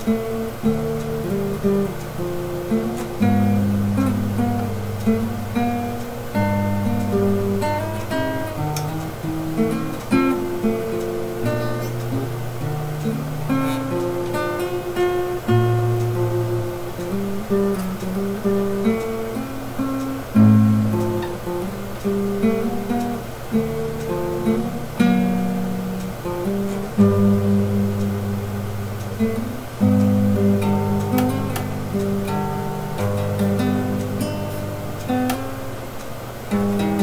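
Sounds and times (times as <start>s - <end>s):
acoustic guitar playing: 0.0s - 37.0s.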